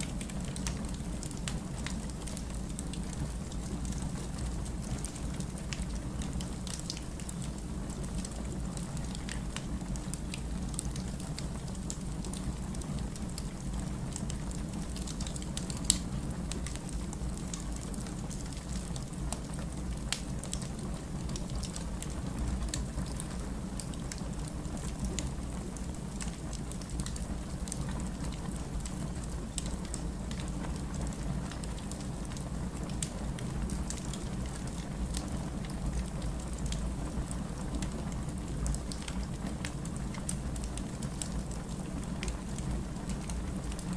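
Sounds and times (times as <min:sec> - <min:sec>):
logs burning in fireplace: 0:00.0 - 0:43.9.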